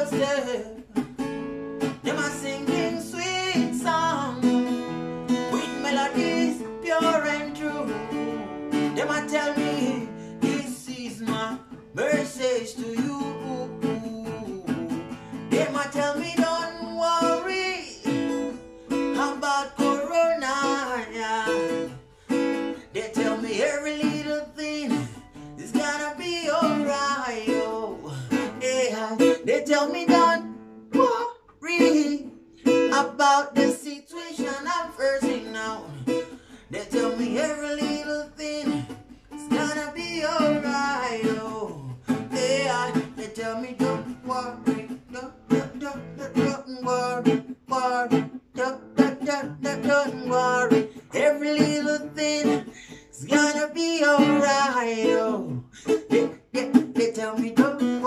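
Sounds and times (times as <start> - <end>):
man singing: 0.0 - 1.2, 1.8 - 58.0
strummed acoustic guitar: 0.0 - 58.0.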